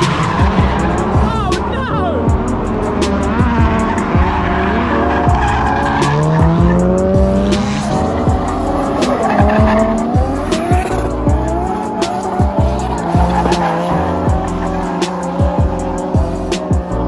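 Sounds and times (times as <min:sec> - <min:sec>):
car engine revving: 0:00.0 - 0:17.0
music with steady beat: 0:00.0 - 0:17.0
tyres squealing: 0:00.0 - 0:17.0.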